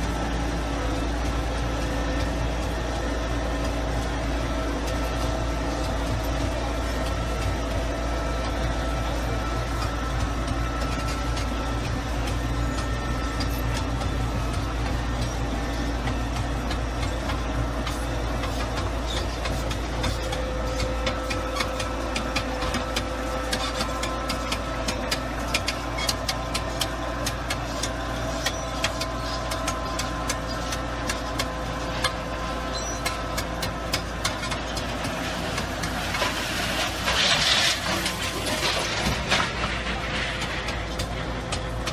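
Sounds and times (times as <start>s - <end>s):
machine engine running: 0.0s - 41.9s
rapid clicks and rattles: 3.6s - 41.9s.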